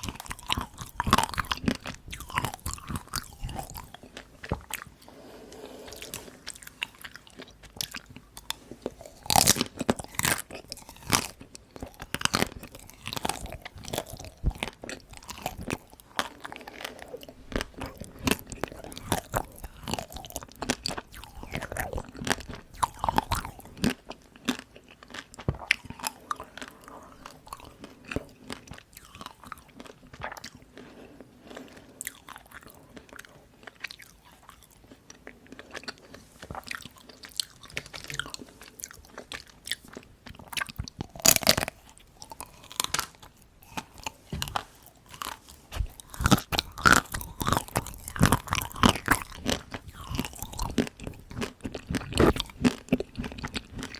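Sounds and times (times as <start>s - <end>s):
chewing and crunching chocolate: 0.0s - 53.9s.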